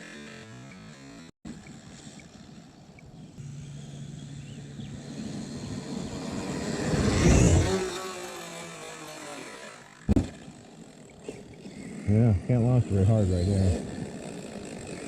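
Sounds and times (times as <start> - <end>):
high motor whine: 0.0 - 15.0
rc truck driving: 0.0 - 15.0.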